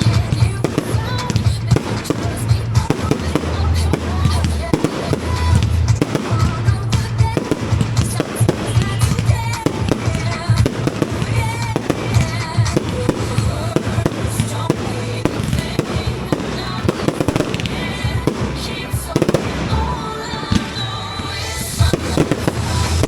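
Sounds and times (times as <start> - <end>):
music with bass beat: 0.0 - 20.0, 21.6 - 23.0
fireworks banging and crackling: 0.0 - 23.0.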